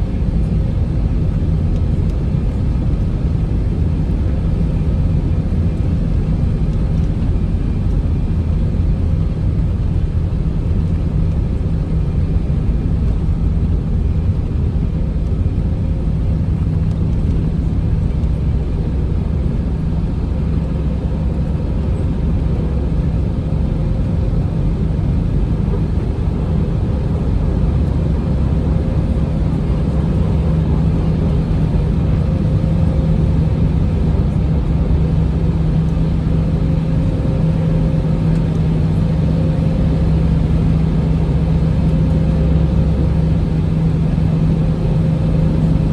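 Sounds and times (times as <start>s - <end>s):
jet engines at takeoff power: 0.0s - 45.9s.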